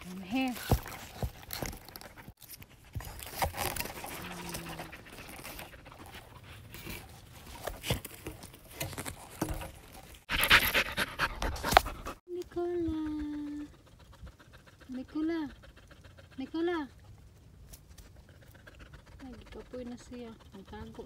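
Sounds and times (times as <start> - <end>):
dog panting: 0.3 - 7.8, 10.2 - 12.2, 12.9 - 21.0.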